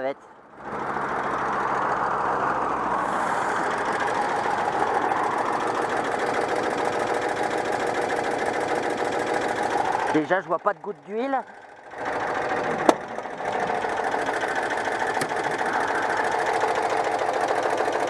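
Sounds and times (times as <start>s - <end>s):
car engine idling: 0.3s - 18.0s.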